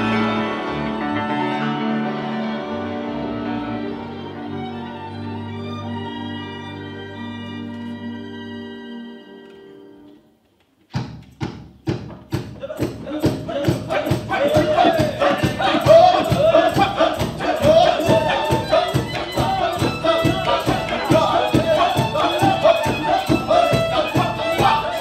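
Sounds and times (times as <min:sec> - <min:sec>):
folk string band playing: 0:00.0 - 0:10.2, 0:13.5 - 0:25.0.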